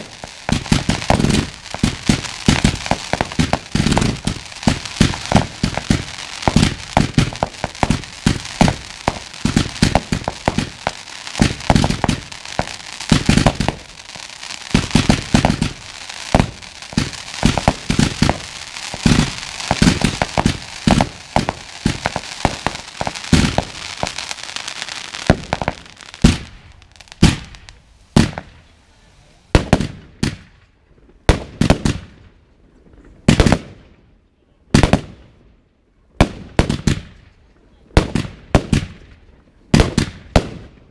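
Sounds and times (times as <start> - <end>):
fireworks bangs and crackling: 0.0 - 34.1, 34.7 - 35.4, 36.2 - 40.9.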